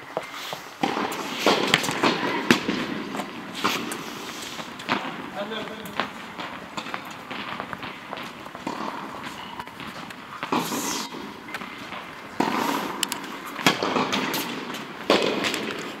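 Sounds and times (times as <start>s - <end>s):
tennis ball struck by rackets: 0.8s - 16.0s.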